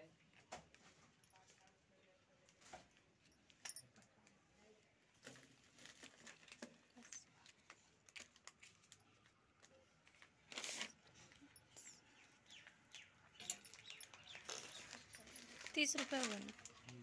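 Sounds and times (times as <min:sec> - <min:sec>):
rustling of goods: 0:00.2 - 0:17.0.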